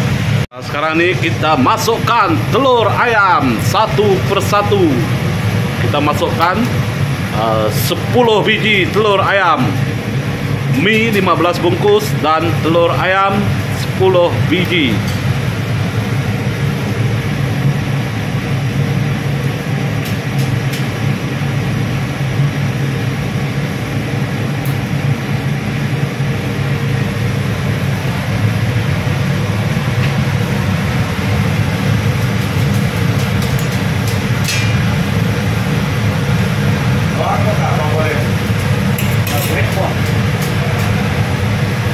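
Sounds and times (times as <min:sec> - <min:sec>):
machinery rumble and hum: 0:00.0 - 0:41.9.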